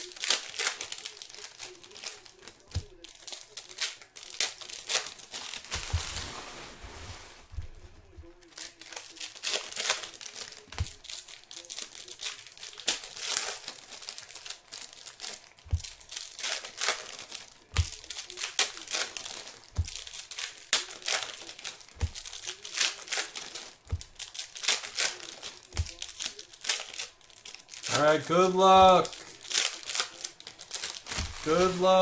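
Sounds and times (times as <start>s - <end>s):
plastic wrapping crinkling and tearing: 0.0s - 32.0s.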